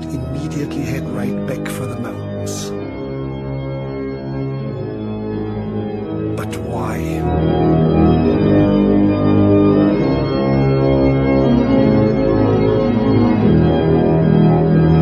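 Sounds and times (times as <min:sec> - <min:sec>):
slow organ chords: 0:00.0 - 0:15.0.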